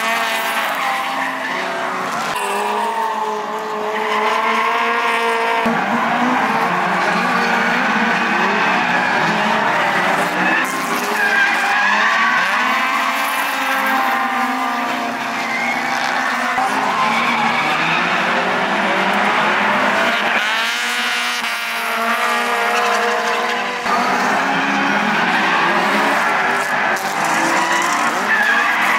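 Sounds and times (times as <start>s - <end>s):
engines revving: 0.0s - 28.9s
tyre squeal: 0.6s - 18.1s, 22.7s - 28.9s.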